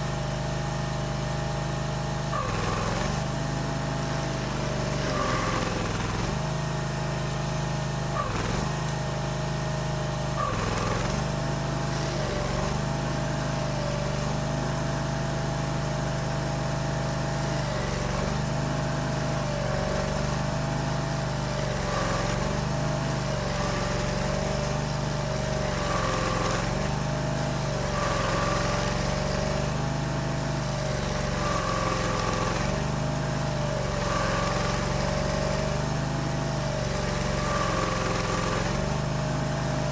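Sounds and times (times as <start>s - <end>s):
stump grinder engine: 0.0s - 39.9s.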